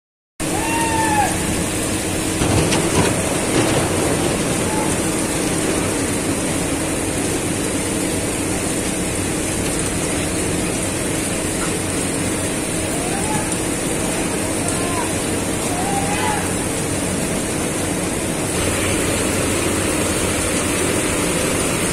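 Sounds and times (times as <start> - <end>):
diesel engine hum: 0.4 - 21.9
heavy rain pouring: 0.4 - 21.9.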